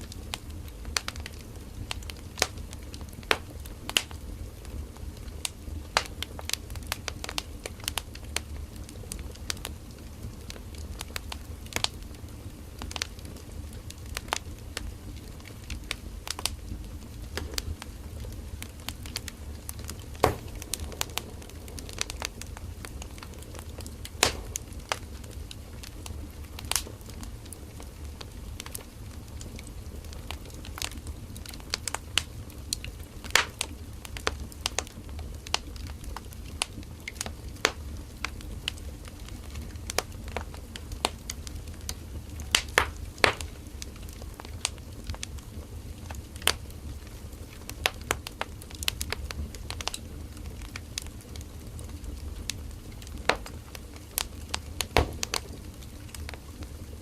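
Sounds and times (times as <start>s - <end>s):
firewood crackling and popping: 0.0s - 57.0s
low rumble of flames: 0.0s - 57.0s.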